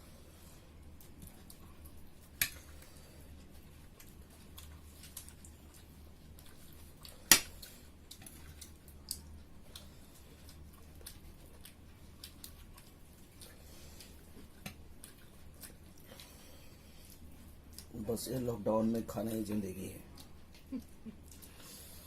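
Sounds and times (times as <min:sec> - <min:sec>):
low steady hum: 0:00.0 - 0:22.0
chewing: 0:00.1 - 0:18.0, 0:19.3 - 0:22.0.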